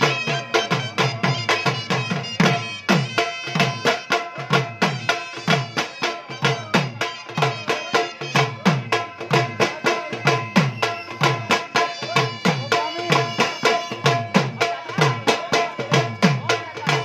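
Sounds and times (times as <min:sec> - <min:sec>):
drums played with sticks: 0:00.0 - 0:17.0.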